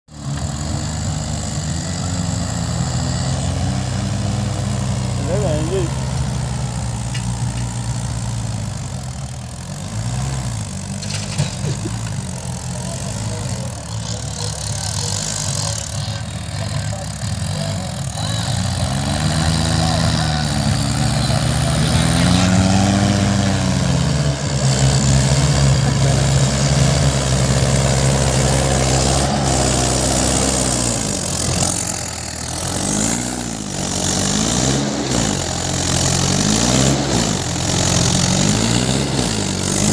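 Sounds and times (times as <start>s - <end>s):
tractor diesel engines running: 0.1s - 39.9s.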